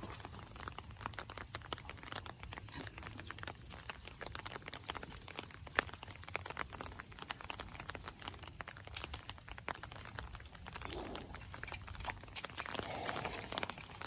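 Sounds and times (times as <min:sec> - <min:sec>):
footsteps on wet ground: 0:00.0 - 0:14.0.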